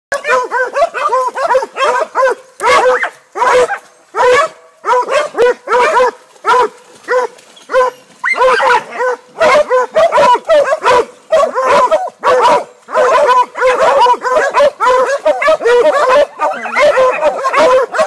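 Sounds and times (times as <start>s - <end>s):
dogs barking excitedly: 0.1s - 18.0s.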